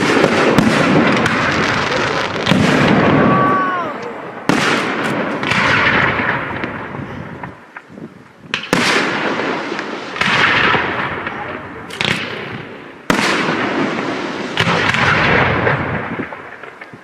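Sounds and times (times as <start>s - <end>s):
firework crackle: 0.0s - 17.0s.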